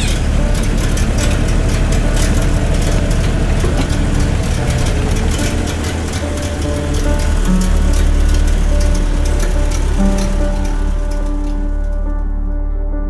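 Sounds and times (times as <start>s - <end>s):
engine rumbling inside cabin: 0.0s - 12.4s.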